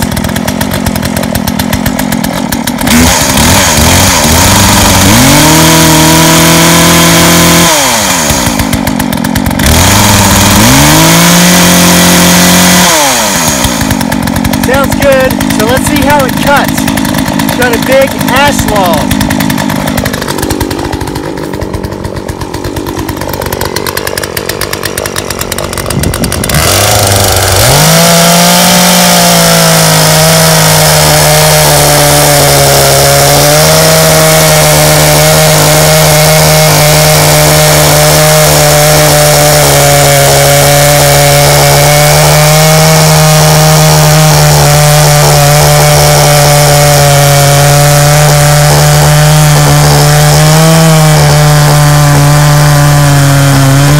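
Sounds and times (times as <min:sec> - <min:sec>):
chainsaw cutting log: 0:00.0 - 0:53.9.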